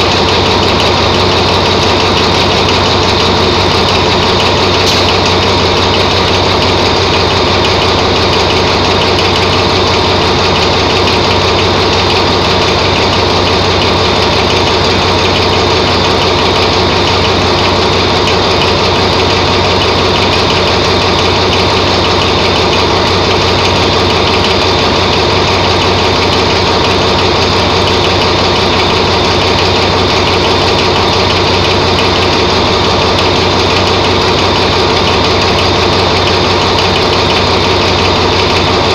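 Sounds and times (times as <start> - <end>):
diesel locomotive idling: 0.0 - 38.9.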